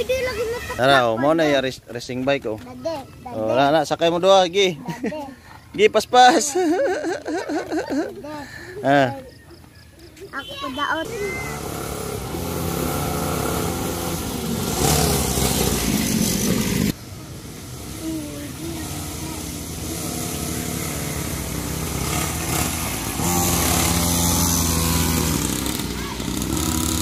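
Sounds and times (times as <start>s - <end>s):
mini bike engines passing: 0.0s - 27.0s.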